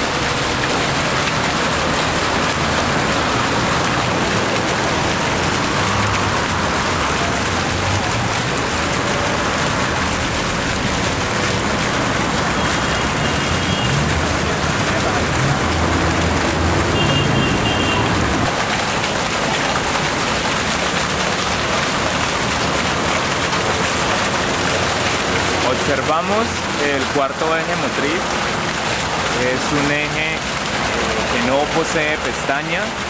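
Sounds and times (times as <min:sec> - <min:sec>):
fountain water splashing: 0:00.0 - 0:33.0.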